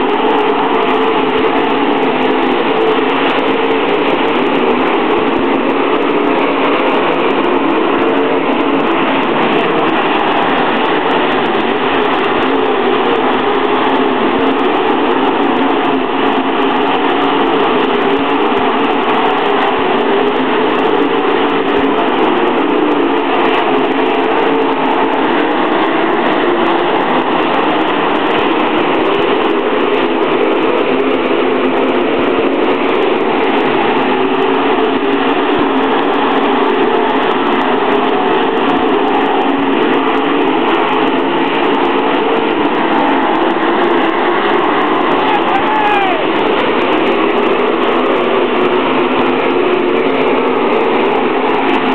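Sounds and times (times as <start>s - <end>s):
race car engines droning: 0.0s - 51.9s.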